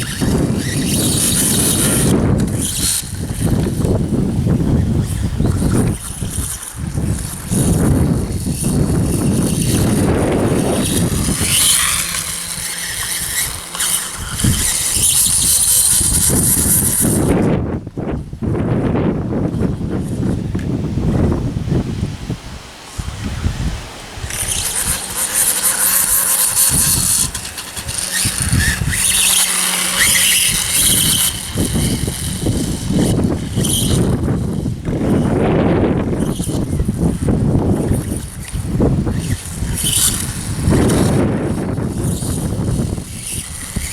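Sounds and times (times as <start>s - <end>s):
electric motor whirring hiss: 0.0s - 43.9s
wind rumbling on microphone: 0.0s - 43.9s.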